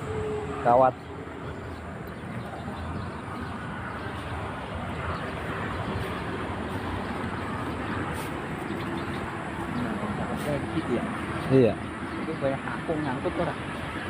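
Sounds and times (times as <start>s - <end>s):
traffic rumble and hiss: 0.0s - 14.0s.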